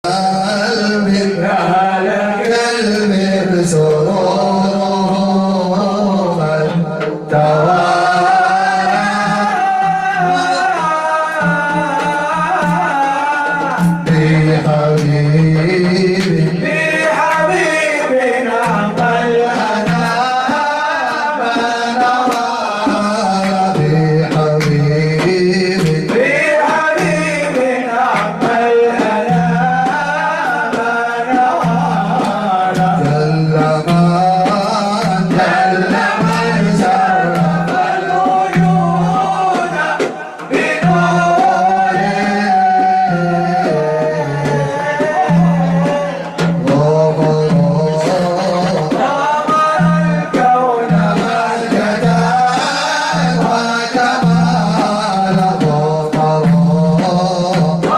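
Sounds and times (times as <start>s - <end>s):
man singing ornamented melody: 0.0s - 57.9s.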